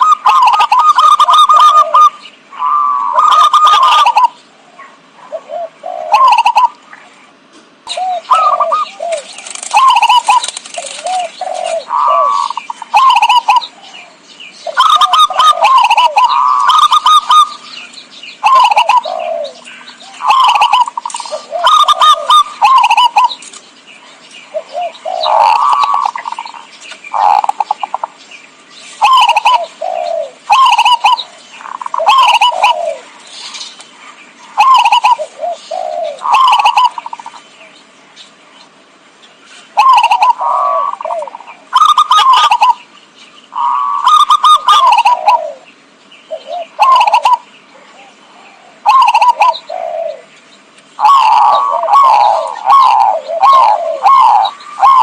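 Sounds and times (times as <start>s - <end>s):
zebra dove cooing: 0.0s - 28.2s, 29.0s - 37.8s, 39.6s - 42.9s, 43.5s - 50.4s, 51.0s - 55.0s.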